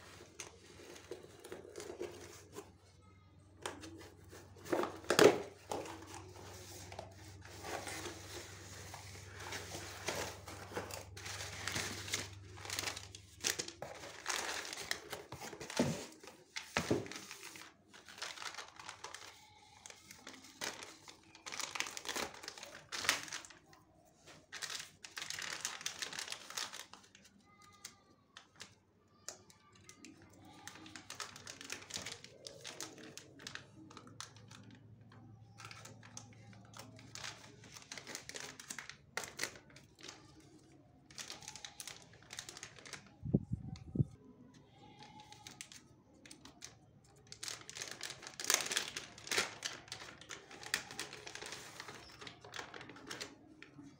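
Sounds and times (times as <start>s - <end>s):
packing paper crumpling: 3.6s - 29.2s, 29.9s - 44.1s, 44.7s - 53.9s
plastic pouch crinkling: 3.7s - 28.7s, 30.0s - 34.8s, 35.5s - 40.5s, 41.1s - 43.8s, 44.8s - 53.9s.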